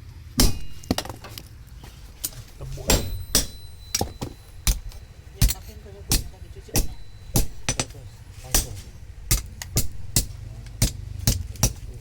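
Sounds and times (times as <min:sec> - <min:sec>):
low hum: 0:00.0 - 0:12.0
hammer striking steel: 0:00.4 - 0:01.4, 0:02.8 - 0:12.0.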